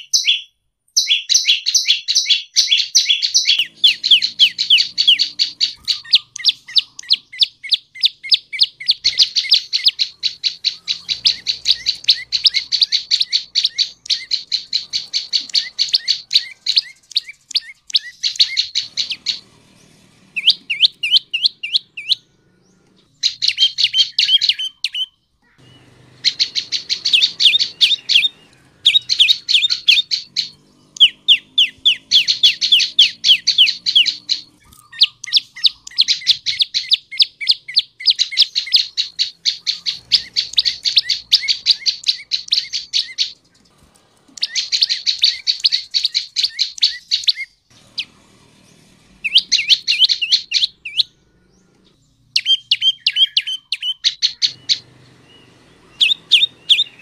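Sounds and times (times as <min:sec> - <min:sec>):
songbird chirping rapidly: 0:00.0 - 0:57.0.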